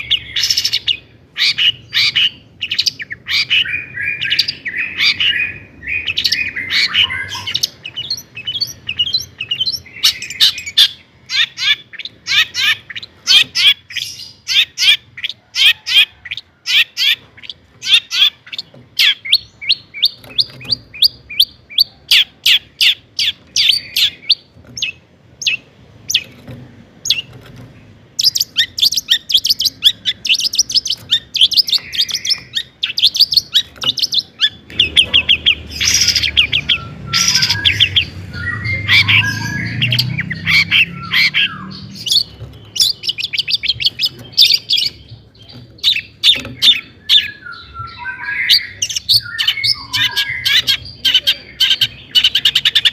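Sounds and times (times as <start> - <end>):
shrike singing: 0.0 - 26.3, 28.1 - 52.9.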